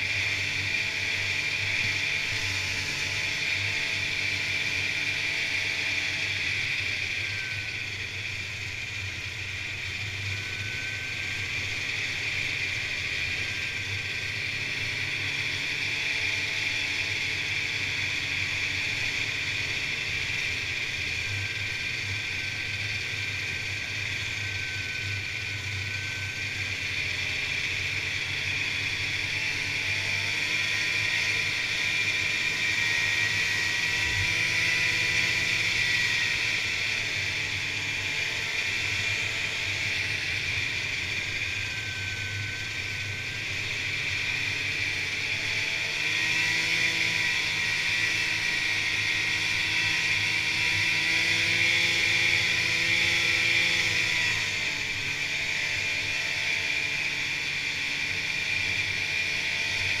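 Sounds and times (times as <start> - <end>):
snowmobile engine running: 0.0 - 60.0.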